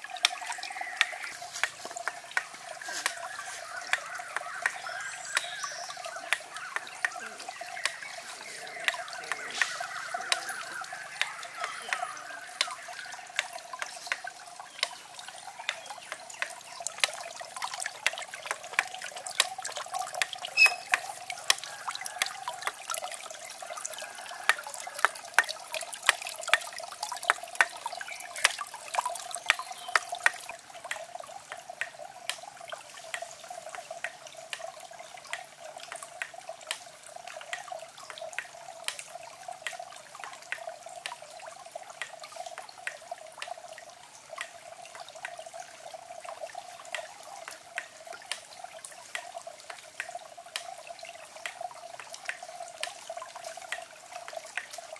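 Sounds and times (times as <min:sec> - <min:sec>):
water drips and splashes: 0:00.0 - 0:54.9
water trickling into pond: 0:00.0 - 0:54.9.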